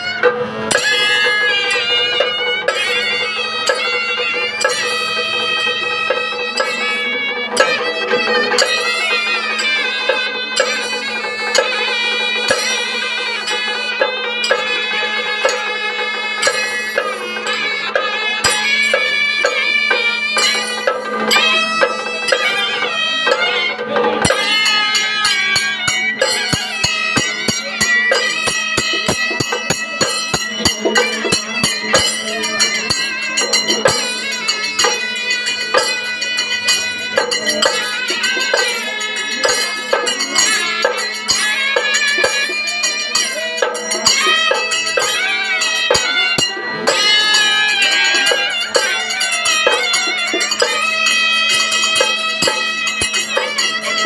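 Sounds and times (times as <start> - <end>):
ornamented folk melody: 0.0 - 54.0
sharp percussion strikes: 0.0 - 54.0.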